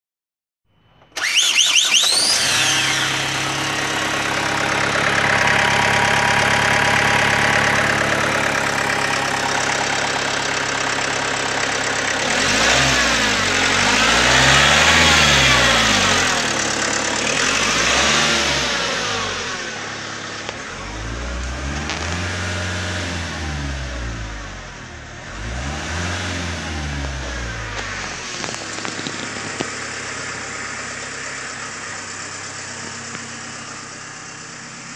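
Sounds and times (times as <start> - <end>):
diesel engine starting and revving: 1.0 - 34.9.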